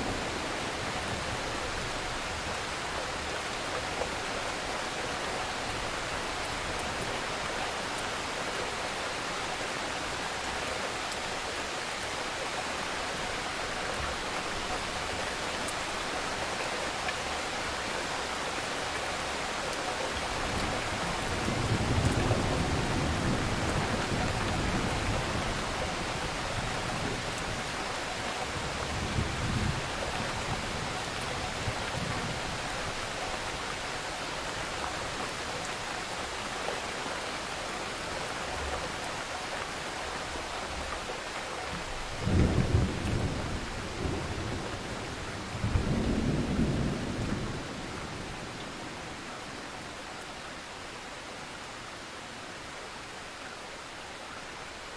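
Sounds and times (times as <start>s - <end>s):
rain and wind hiss: 0.0s - 54.9s.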